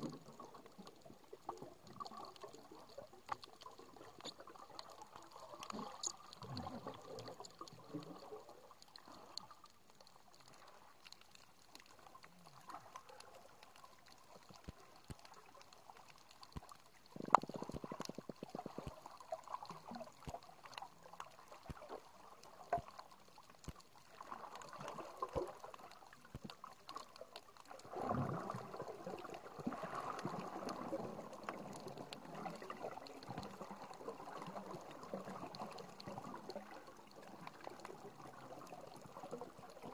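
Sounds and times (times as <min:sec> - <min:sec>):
muffled underwater water movement: 0:00.0 - 0:39.9
rushing bubbling water: 0:00.0 - 0:39.9.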